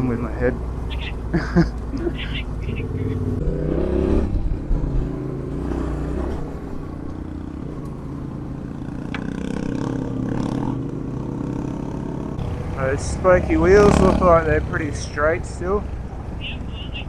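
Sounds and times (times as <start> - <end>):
motorcycle engine running: 0.0 - 17.0
motorcycle rattling over rough ground: 0.0 - 17.0.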